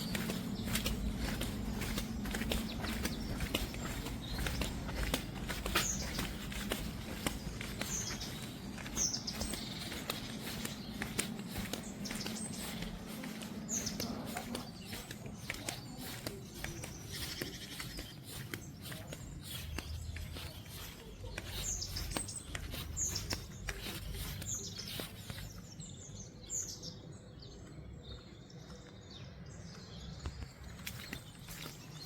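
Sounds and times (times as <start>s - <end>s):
footsteps crunching on stones: 0.0s - 27.0s, 28.1s - 32.0s
birds chirping: 0.0s - 32.0s.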